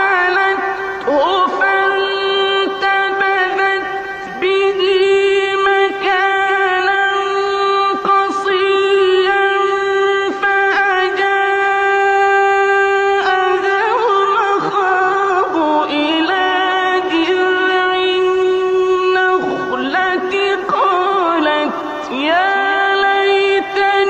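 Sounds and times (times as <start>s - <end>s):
person reciting melodically: 0.0s - 24.0s.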